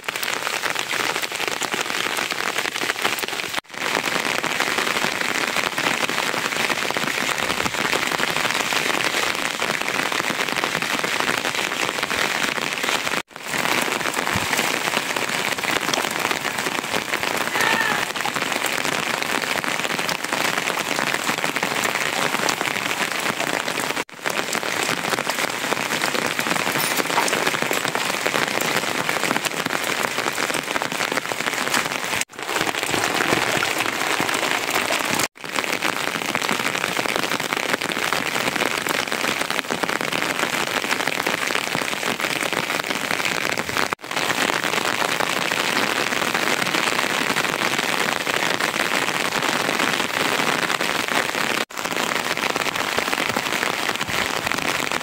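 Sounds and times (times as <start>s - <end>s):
steady rain patter: 0.0s - 55.0s.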